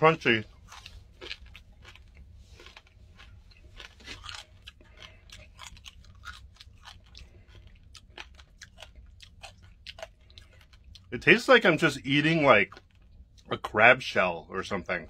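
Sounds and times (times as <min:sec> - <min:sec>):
person chewing crunchy shell: 0:00.1 - 0:11.4, 0:12.4 - 0:13.6.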